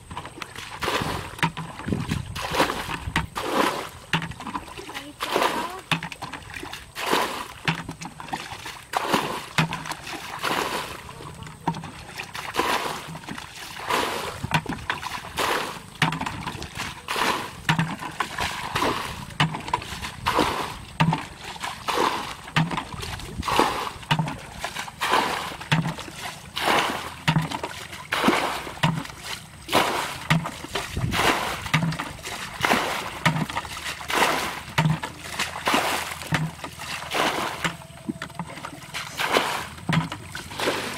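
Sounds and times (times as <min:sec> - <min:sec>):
bucket scooping water: 0:00.0 - 0:40.9
water pouring splashes: 0:00.0 - 0:40.9.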